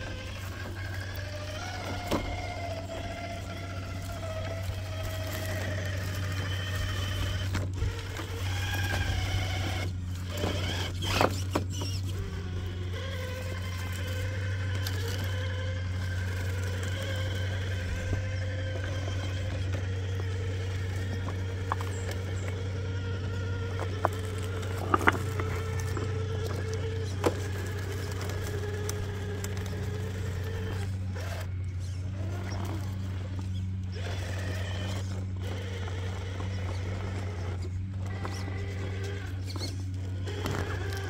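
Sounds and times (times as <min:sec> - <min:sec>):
rc car motor whining: 0:00.0 - 0:41.0
steady low hum: 0:00.0 - 0:41.0
tires knocking against rock: 0:00.0 - 0:41.0.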